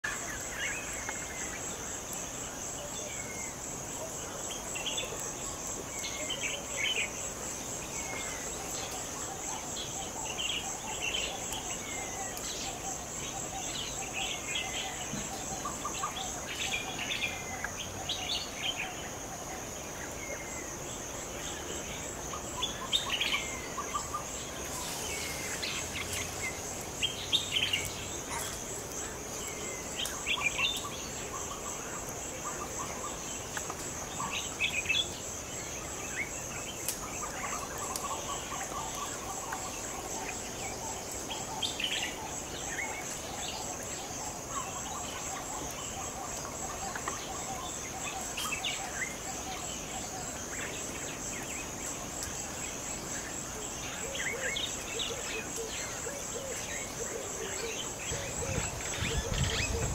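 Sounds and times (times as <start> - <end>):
high-pitched insect trill: 0.0 - 59.9.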